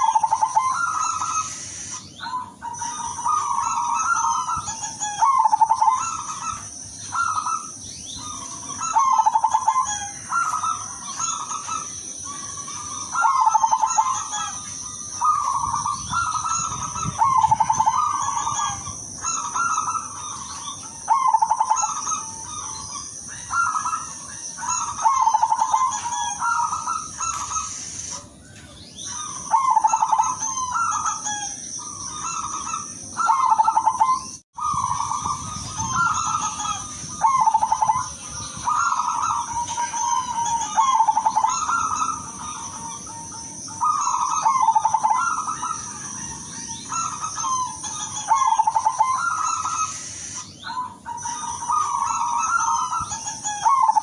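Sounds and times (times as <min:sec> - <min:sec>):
dove cooing: 0:00.0 - 0:28.4, 0:29.0 - 0:54.0.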